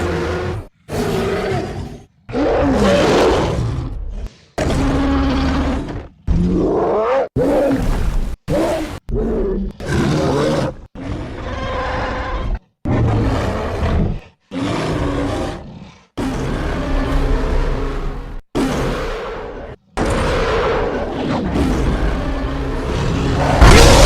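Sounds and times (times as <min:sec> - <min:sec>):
gorilla and monster roars: 0:00.0 - 0:24.0.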